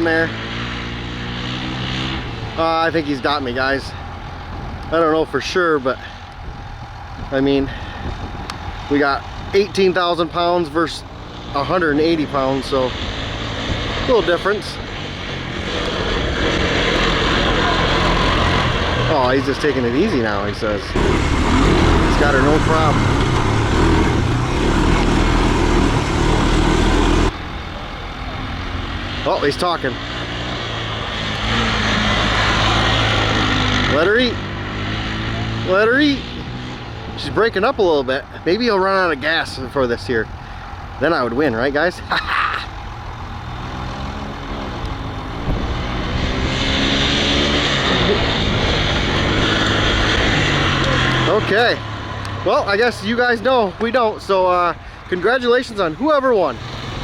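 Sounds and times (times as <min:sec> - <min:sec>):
vehicle engine under load: 0:00.0 - 0:57.0.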